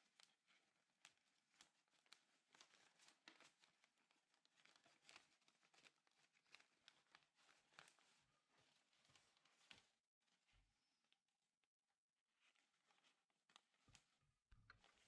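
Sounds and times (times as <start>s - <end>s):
paper rustling and crinkling: 0.0s - 10.4s, 12.4s - 15.0s.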